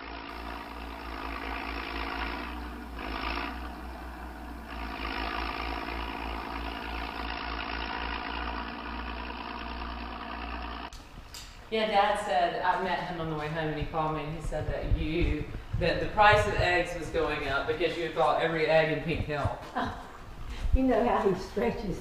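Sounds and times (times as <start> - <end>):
tractor engine running: 0.0 - 11.3, 11.9 - 21.8.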